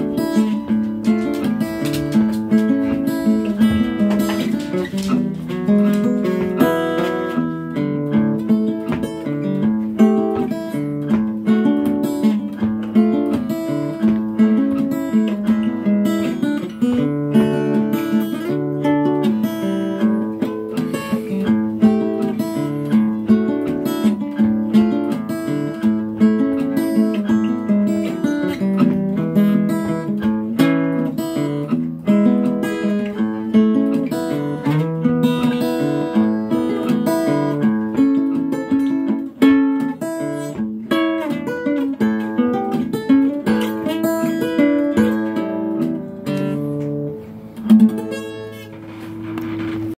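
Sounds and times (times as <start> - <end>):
acoustic guitar picked and strummed: 0.0 - 49.9.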